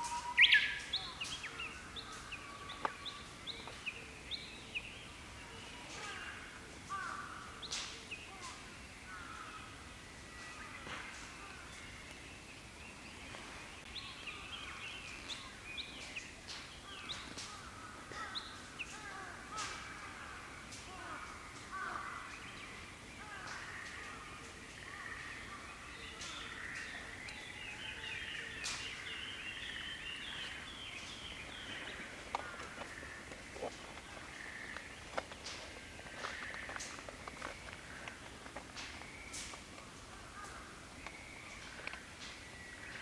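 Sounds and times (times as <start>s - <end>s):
songbirds chirping and trilling: 0.0s - 43.0s.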